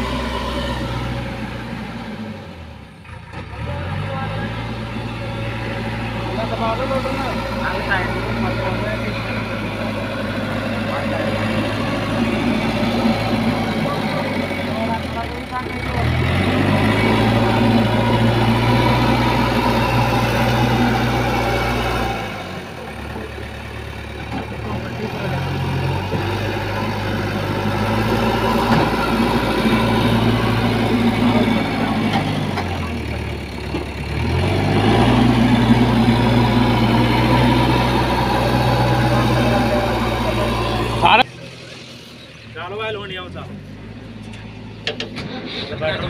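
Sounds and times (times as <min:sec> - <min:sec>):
diesel engine revving and idling: 0:00.0 - 0:46.0.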